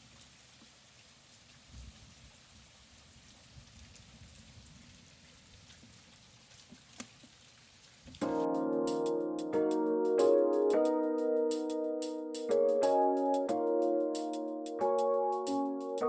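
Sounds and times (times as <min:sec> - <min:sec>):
faint steady rain: 0:00.0 - 0:16.0.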